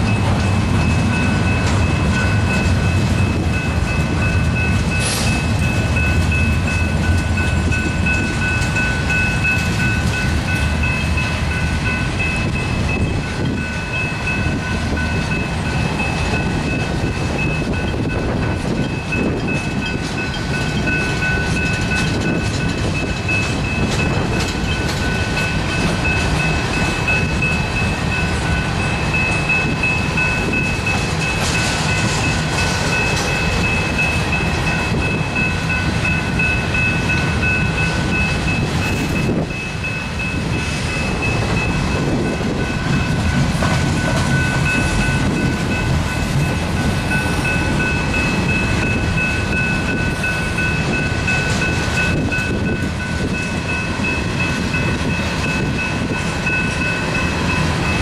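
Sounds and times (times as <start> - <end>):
freight train rumbling past: 0.0 - 58.0
high ringing tone: 0.0 - 58.0
wheels clattering on rails: 0.0 - 58.0.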